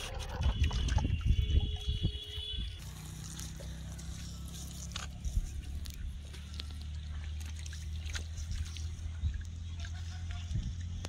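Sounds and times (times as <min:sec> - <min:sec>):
low motor hum: 0:00.0 - 0:11.0
water sloshing: 0:00.0 - 0:11.0.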